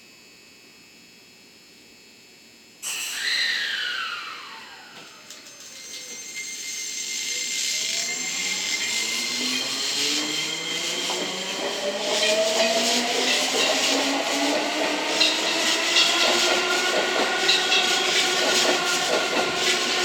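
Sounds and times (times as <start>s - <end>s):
electric train motors whining: 2.8s - 20.0s.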